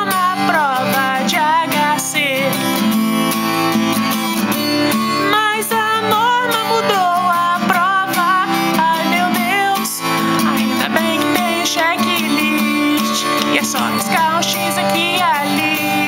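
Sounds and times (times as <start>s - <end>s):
acoustic guitar: 0.0s - 16.0s
wavering lead melody: 0.6s - 16.0s.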